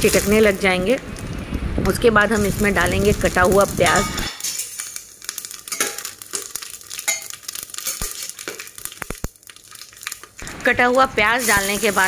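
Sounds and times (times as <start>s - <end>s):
spices sizzling in hot oil: 0.0s - 1.4s, 2.2s - 12.0s
spices crackling and popping: 0.0s - 12.0s.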